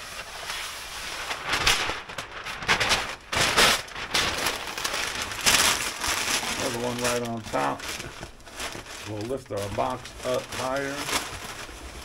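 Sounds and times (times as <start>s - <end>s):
paper crumpling and rustling: 0.0s - 12.0s.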